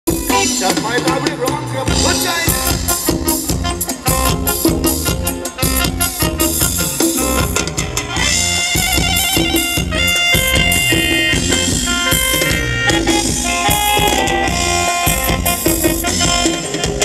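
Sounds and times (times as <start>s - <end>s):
drum kit beat: 0.1s - 17.0s
horn-like melody: 0.1s - 17.0s
live band dance music: 0.1s - 17.0s.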